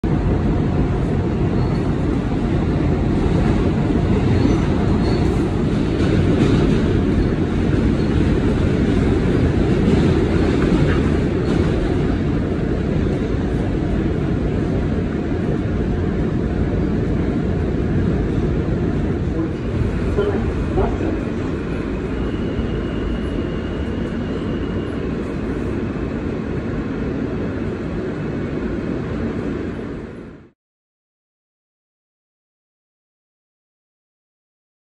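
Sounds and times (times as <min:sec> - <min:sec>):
subway car running noise: 0:00.0 - 0:30.6.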